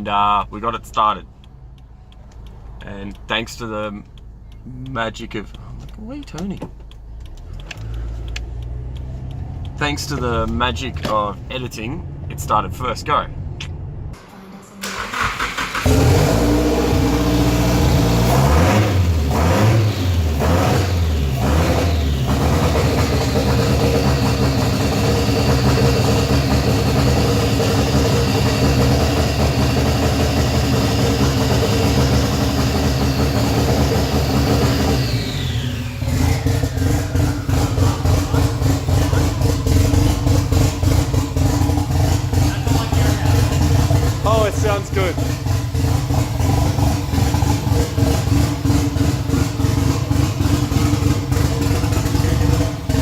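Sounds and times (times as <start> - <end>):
car engine revving and idling: 0.0 - 53.0.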